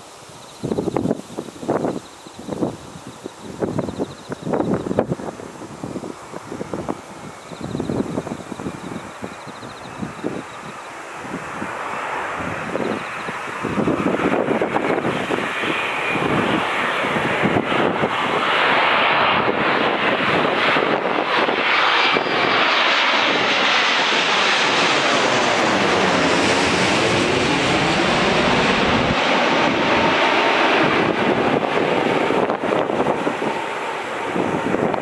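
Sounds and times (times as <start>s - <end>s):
jet airliner passing overhead: 0.0s - 35.0s.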